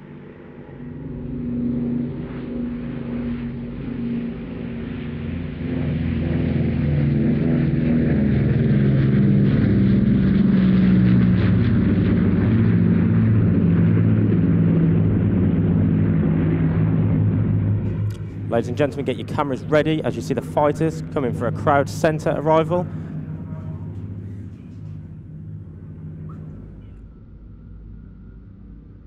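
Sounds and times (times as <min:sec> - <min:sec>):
propeller aircraft droning past: 0:00.0 - 0:29.0.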